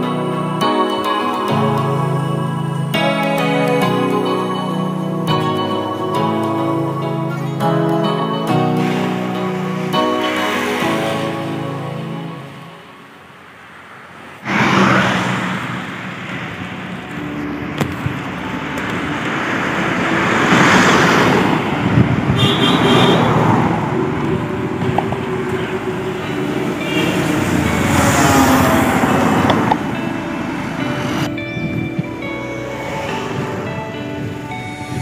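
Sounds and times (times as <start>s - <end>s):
soft music: 0.0s - 13.4s, 16.6s - 22.2s, 22.8s - 35.0s
cars and motorcycles passing: 0.0s - 35.0s.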